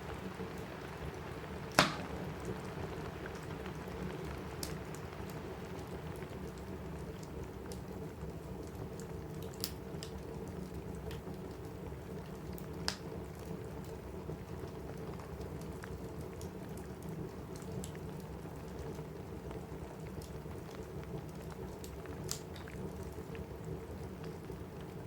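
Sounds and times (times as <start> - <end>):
fireplace crackling and popping: 0.0 - 25.0
rain on a roof: 0.0 - 25.0.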